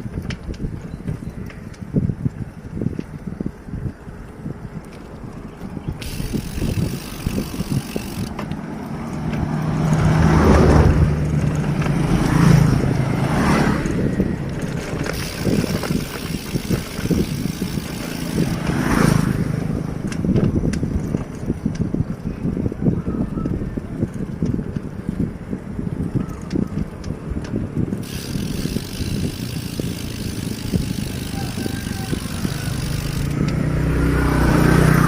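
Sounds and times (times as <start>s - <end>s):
vehicle engine hum: 0.0s - 35.0s
wind buffeting microphone: 0.0s - 35.0s.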